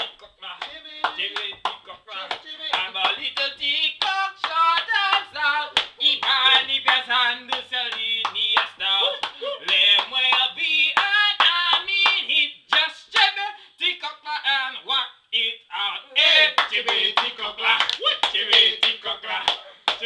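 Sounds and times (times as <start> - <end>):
hand claps: 0.0 - 13.3, 16.6 - 20.0
men singing a chant-like song: 0.0 - 20.0.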